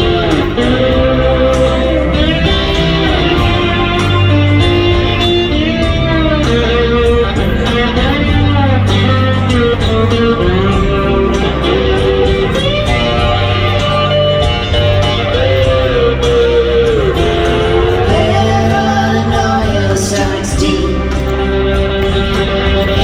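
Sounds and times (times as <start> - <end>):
bass guitar: 0.0 - 23.0
drums with cymbal hits: 0.0 - 23.0
electric guitar bending notes: 0.0 - 23.0.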